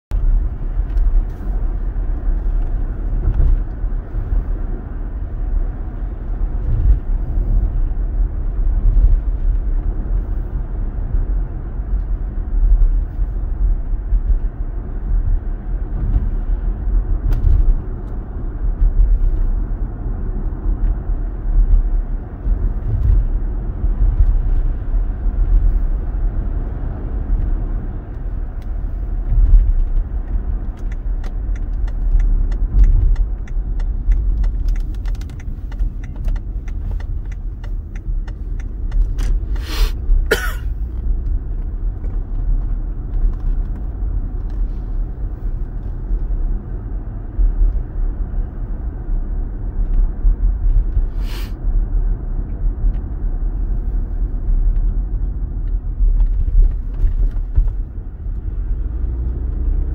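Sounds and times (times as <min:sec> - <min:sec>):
car road and engine rumble: 0:00.1 - 0:59.9.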